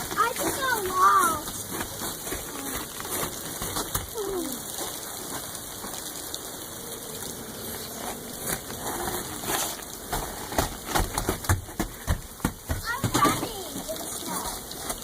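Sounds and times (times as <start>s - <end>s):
sharp hail ticks: 0.0s - 6.6s, 7.2s - 15.0s
hail hissing on ground: 0.0s - 15.0s.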